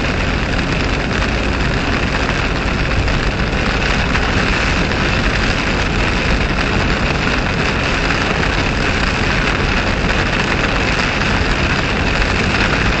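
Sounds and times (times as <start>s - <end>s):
rain hitting windshield: 0.0s - 13.0s
tyres hissing on wet road: 0.0s - 13.0s.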